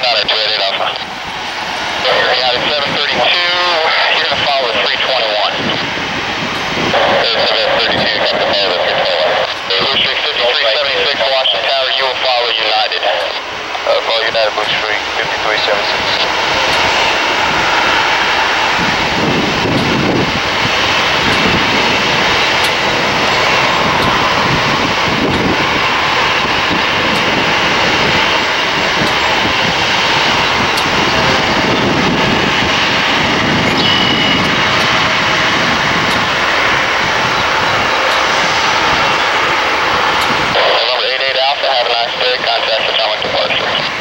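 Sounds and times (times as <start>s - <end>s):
jet taking off: 0.0s - 44.0s.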